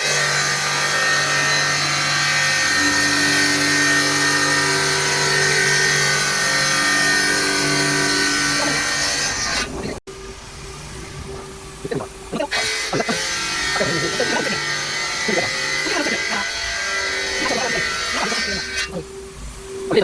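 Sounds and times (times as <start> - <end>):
saw blade grinding stone: 0.0 - 10.0, 12.5 - 19.2
motor hum: 0.0 - 20.0.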